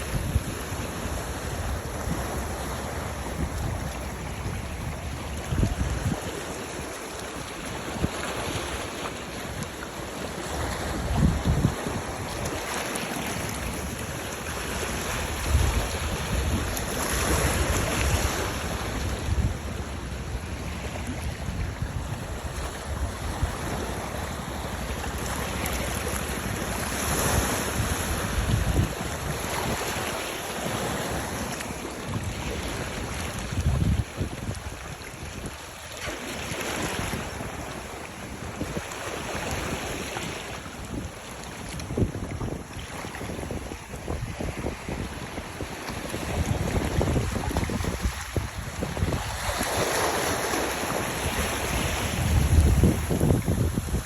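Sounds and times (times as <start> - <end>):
wind buffeting microphone: 0.0 - 9.8, 10.4 - 35.7, 36.4 - 54.0
sea waves: 0.0 - 54.0.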